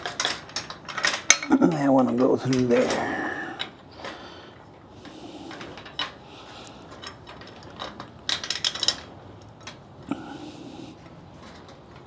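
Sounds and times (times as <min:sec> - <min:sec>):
metal parts clicking and clinking: 0:00.0 - 0:09.9.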